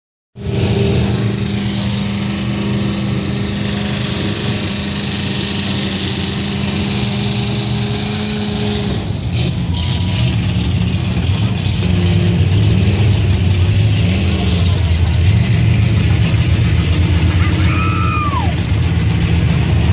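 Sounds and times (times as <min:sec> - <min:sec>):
truck engine revving: 0:00.4 - 0:19.9.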